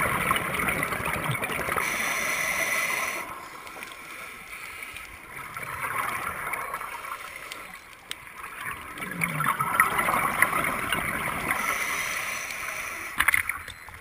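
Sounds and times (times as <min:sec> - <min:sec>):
regulator bubbles gurgling underwater: 0:00.0 - 0:04.4, 0:05.0 - 0:14.0.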